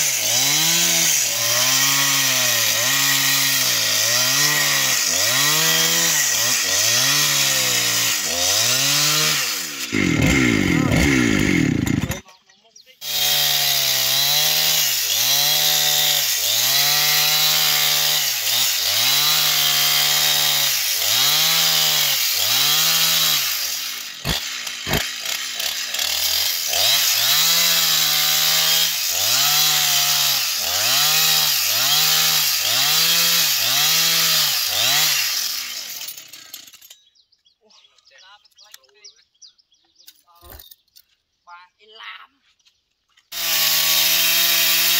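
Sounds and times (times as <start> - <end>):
chainsaw cutting log: 0.0 - 12.3, 13.0 - 36.9, 43.3 - 44.9.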